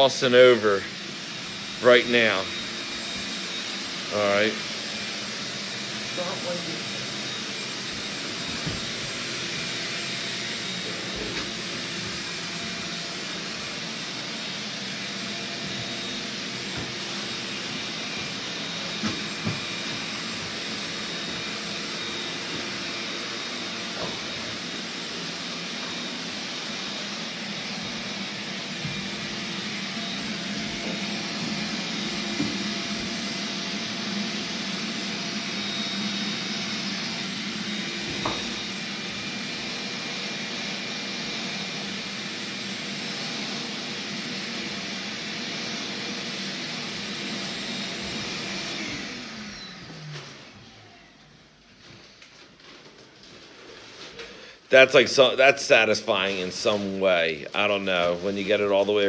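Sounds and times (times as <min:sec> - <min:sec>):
motor-driven blower whooshing: 0:00.0 - 0:50.8.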